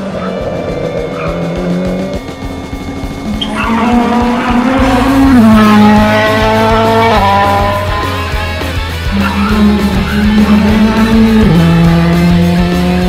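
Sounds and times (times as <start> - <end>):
background music: 0.0 - 13.0
car engine revving: 0.0 - 13.0.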